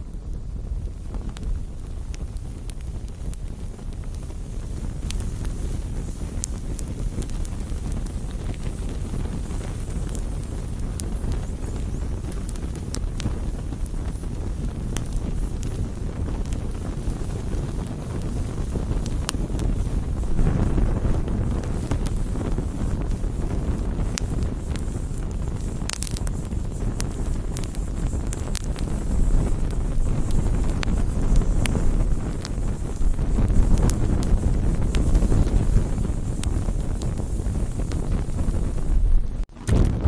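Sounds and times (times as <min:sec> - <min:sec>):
campfire pops and snaps: 0:00.0 - 0:40.0
fire low rush: 0:00.0 - 0:40.0.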